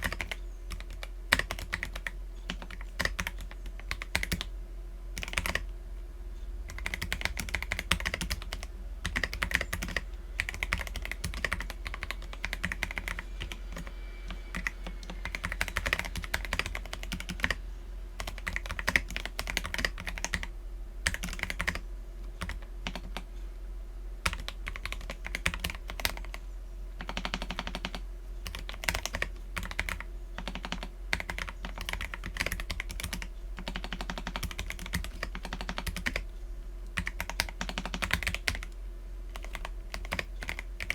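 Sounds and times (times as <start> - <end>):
mechanical keyboard typing: 0.0 - 4.5, 5.2 - 5.7, 6.7 - 13.9, 14.5 - 17.6, 18.2 - 23.3, 24.2 - 26.4, 27.0 - 36.3, 36.9 - 40.9.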